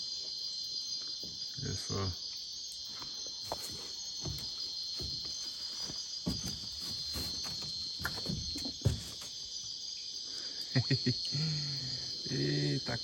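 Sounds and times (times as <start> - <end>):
insects buzzing shrilly: 0.0 - 13.0.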